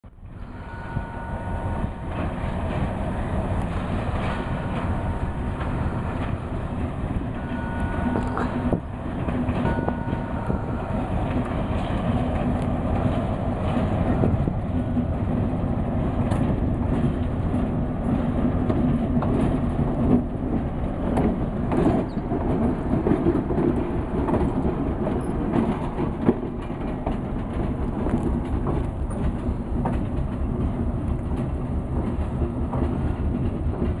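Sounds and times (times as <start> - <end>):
diesel locomotive engine running: 0.0 - 34.0
wheels clacking on track: 0.1 - 34.0.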